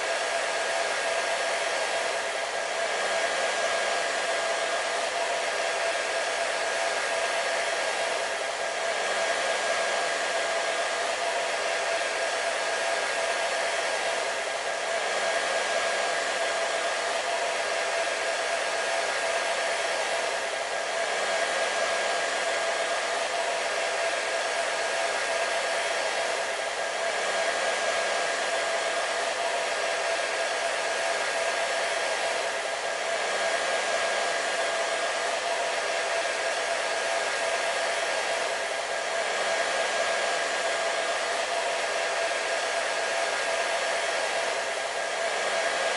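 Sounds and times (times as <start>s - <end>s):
hair dryer running: 0.0s - 45.9s.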